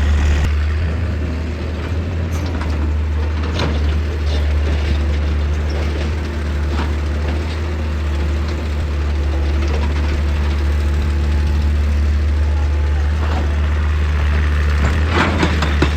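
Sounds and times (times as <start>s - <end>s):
excavator diesel engine humming: 0.0s - 15.9s.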